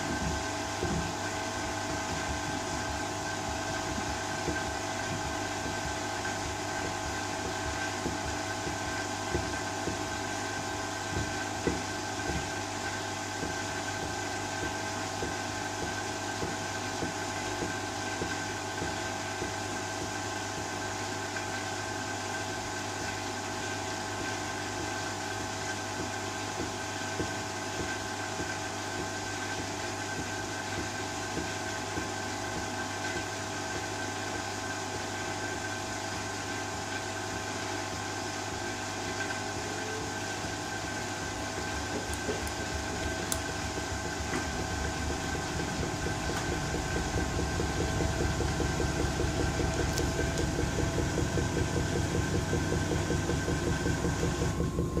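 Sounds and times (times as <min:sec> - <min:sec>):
washing machine drum spinning: 0:00.0 - 0:55.0
washing machine motor hum: 0:00.0 - 0:55.0.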